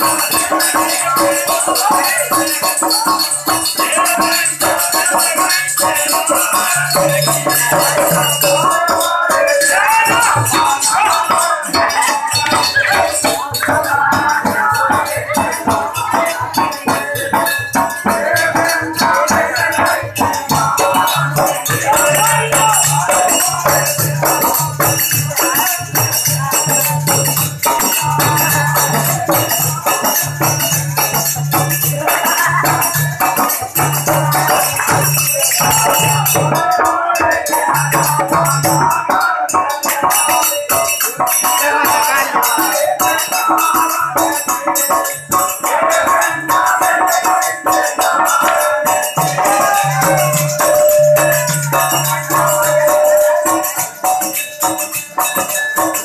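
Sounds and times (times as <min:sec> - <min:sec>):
folk music with drum and jingles: 0:00.0 - 0:56.0.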